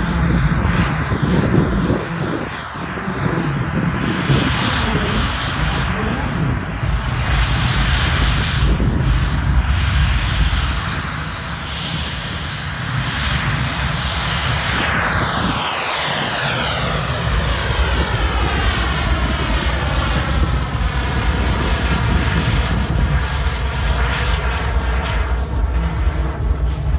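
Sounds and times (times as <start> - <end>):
jet turbine roar: 0.0 - 26.9.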